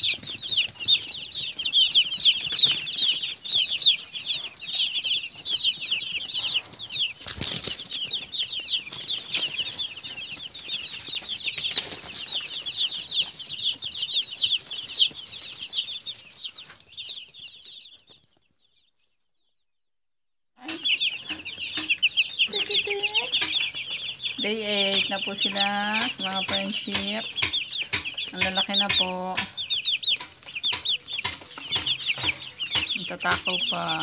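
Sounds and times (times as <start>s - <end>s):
chicks peeping: 0.0s - 19.5s, 20.6s - 34.0s.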